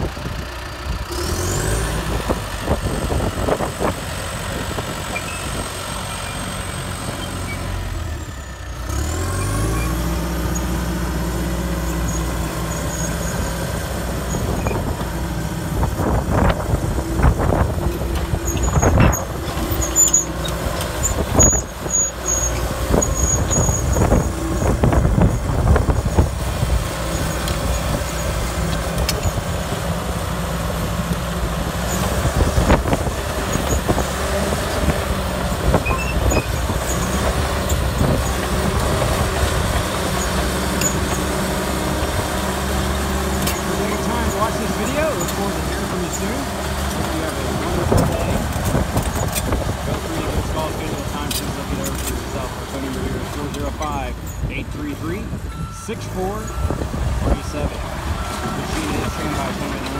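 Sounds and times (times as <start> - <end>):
diesel engine running: 0.0 - 59.9
steel tracks clanking and squealing: 5.0 - 7.8, 8.9 - 10.8, 11.9 - 13.6, 14.2 - 26.4, 27.0 - 29.6, 31.7 - 59.9.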